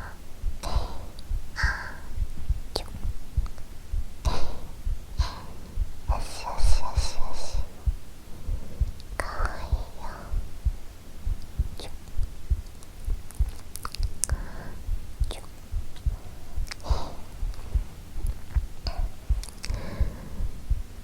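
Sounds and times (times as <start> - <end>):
breathy whispers: 0.0 - 21.0
heartbeat thumping: 0.0 - 21.0
mouth clicks: 0.0 - 21.0.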